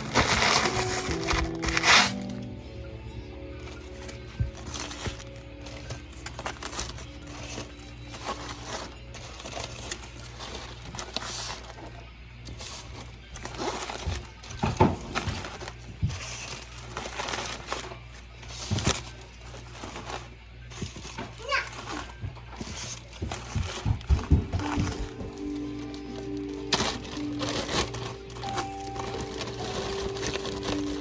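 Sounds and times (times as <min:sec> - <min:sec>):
food wrapping crinkling and tearing: 0:00.0 - 0:31.0.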